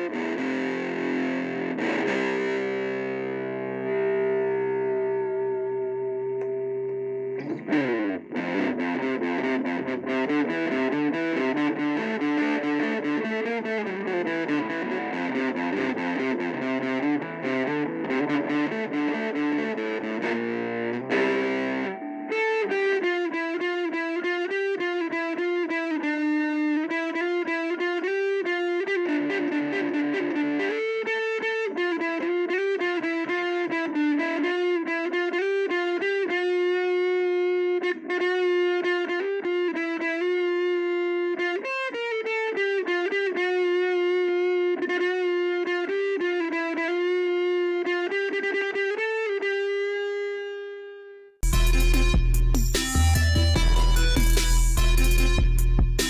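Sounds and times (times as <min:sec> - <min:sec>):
distorted electric guitar: 0:00.0 - 0:56.0.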